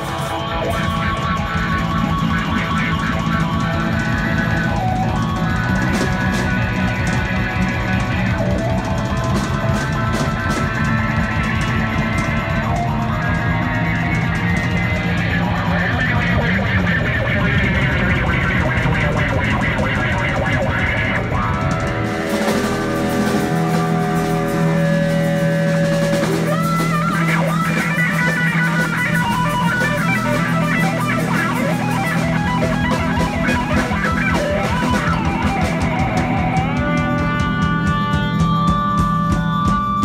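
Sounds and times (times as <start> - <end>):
drum kit: 0.0 - 40.0
electric guitar lead lines: 0.0 - 40.0.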